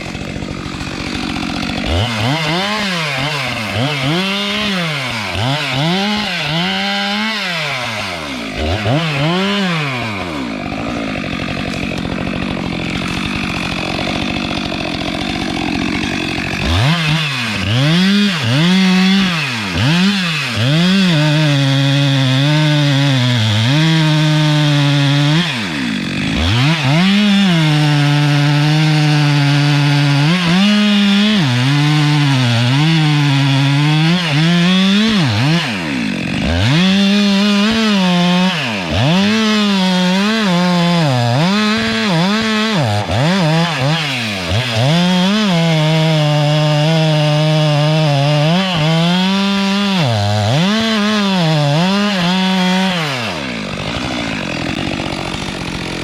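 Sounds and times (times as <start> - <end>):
chainsaw cutting at high revs: 0.0 - 56.0.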